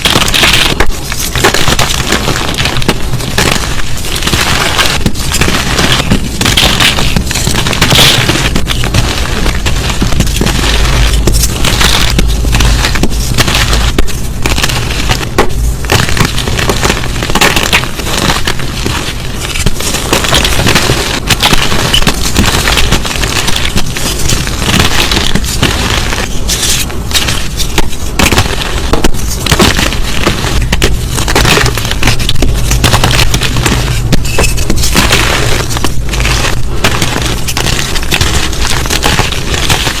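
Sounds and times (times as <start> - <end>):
brittle material crunching: 0.0 - 40.0.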